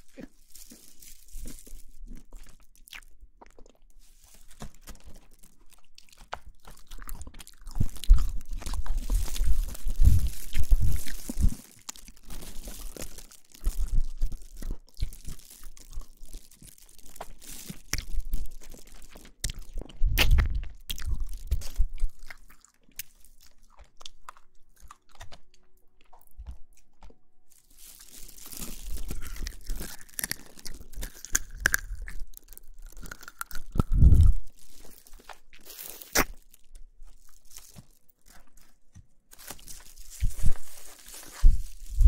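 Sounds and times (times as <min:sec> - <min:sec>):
close crunching and crackling: 0:00.0 - 0:42.0.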